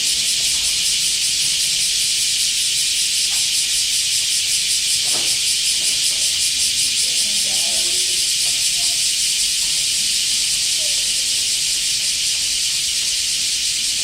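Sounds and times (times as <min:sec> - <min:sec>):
cicada buzzing: 0:00.0 - 0:14.0.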